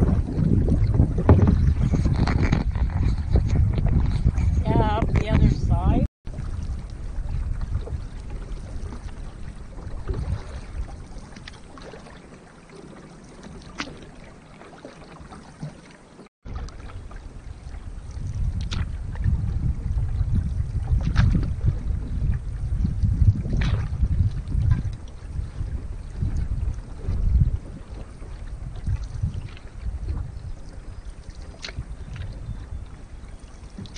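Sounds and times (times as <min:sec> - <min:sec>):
wind rumbling on microphone: 0:00.0 - 0:15.7, 0:16.4 - 0:33.9
water lapping around a canoe: 0:00.0 - 0:33.9.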